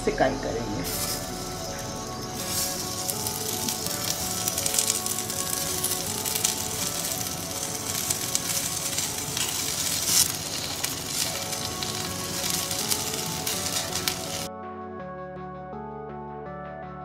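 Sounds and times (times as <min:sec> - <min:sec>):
soft background music: 0:00.0 - 0:17.0
patties sizzling in hot oil: 0:00.8 - 0:14.5.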